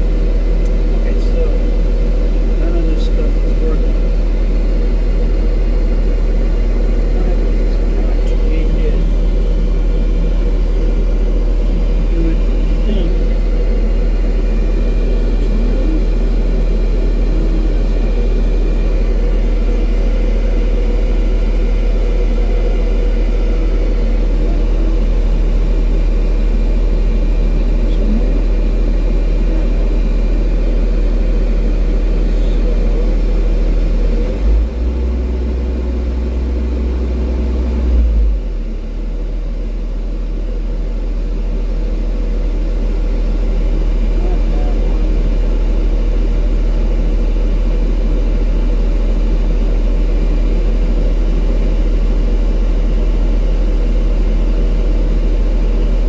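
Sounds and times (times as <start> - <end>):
deeper hum: 0.0 - 56.0
diesel engine droning: 0.0 - 56.0.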